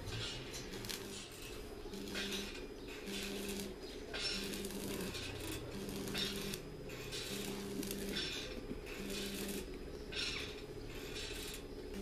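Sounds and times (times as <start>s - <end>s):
rhythmic rasping strokes: 0.0s - 12.0s.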